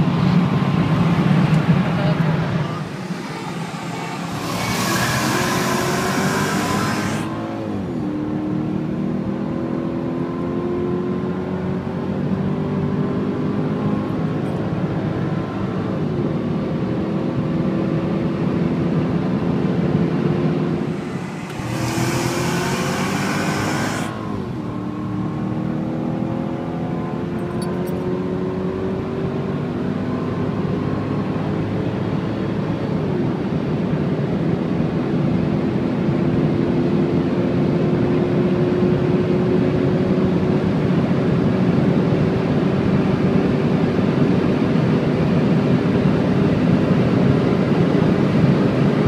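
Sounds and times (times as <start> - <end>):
car engine accelerating hard: 0.0 - 49.0
road and wind noise: 0.0 - 49.0.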